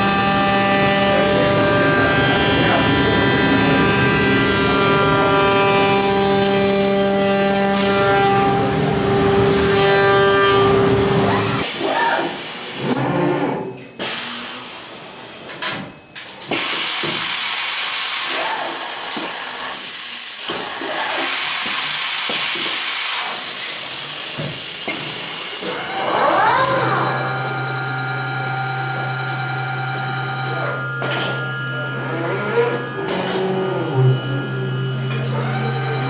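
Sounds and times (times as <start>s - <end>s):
woodworking machine running: 0.0s - 12.0s, 18.1s - 36.0s.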